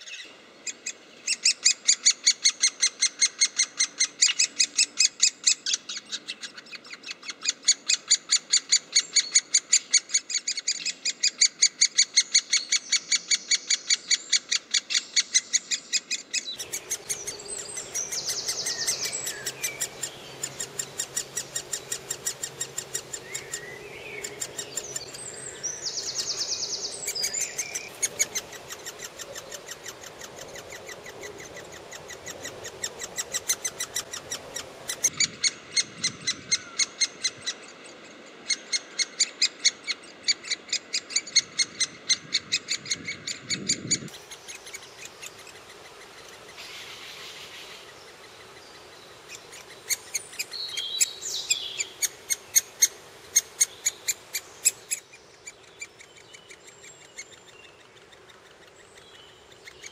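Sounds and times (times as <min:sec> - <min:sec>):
woodpecker nestlings begging calls: 0:00.1 - 0:59.9.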